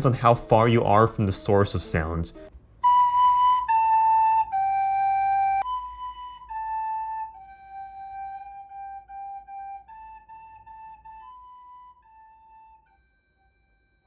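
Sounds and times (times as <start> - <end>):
recorder playing slow tune: 2.3 - 14.0.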